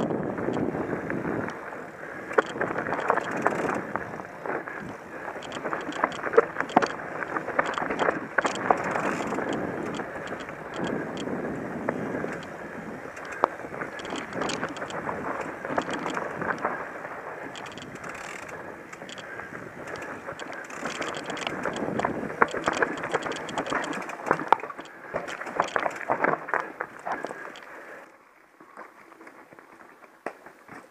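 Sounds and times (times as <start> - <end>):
bike clicking and rattling: 0.0 - 30.9
tyres rumbling on dirt and stones: 2.3 - 27.7.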